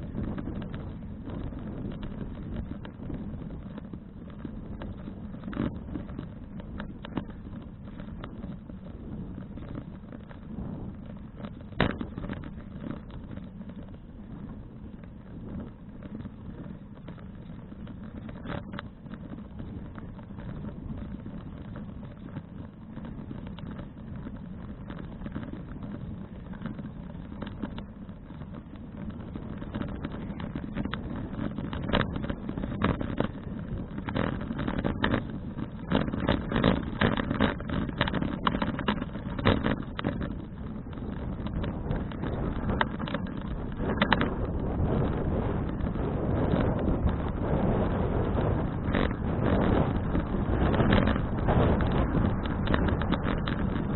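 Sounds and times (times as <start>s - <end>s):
bicycle clicks and rattling knocks: 0.0s - 53.9s
wind and tyres rumble: 0.0s - 53.9s.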